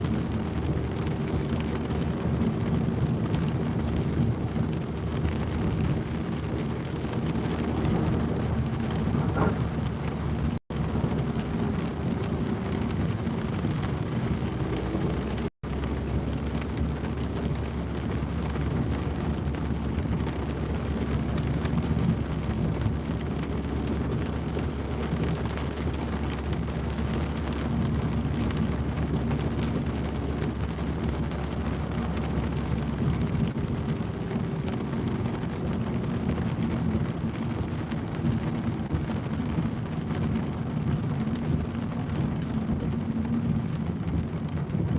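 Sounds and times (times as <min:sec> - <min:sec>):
rain falling: 0:00.0 - 0:44.9
traffic rumble: 0:00.0 - 0:44.9.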